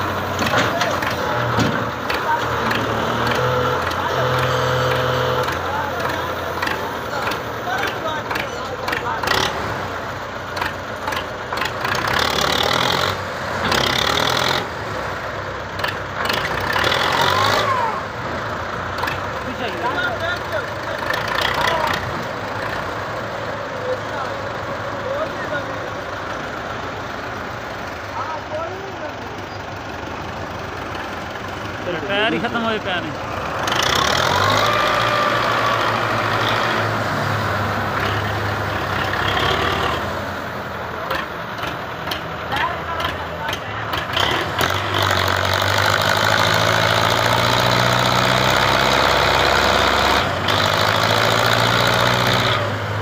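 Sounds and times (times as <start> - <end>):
tractor diesel engine revving: 0.0 - 53.0.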